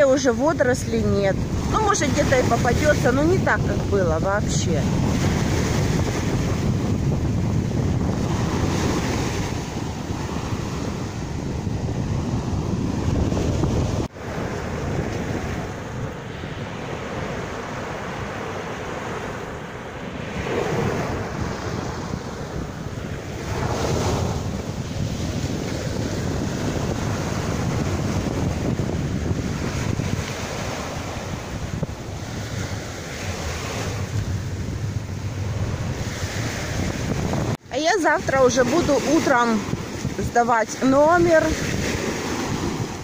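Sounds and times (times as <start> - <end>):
waves washing on sandy shore: 0.0 - 43.0
wind buffeting microphone: 0.0 - 43.0.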